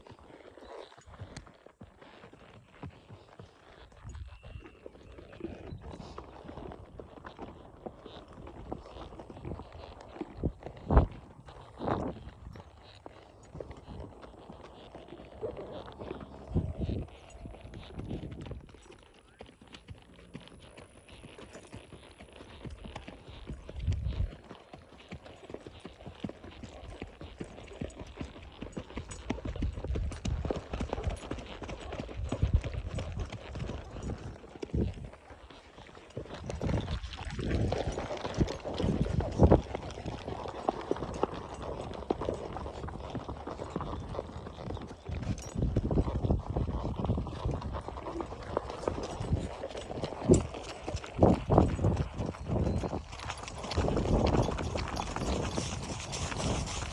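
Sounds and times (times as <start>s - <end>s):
horse hooves clip-clopping: 0.0s - 56.9s.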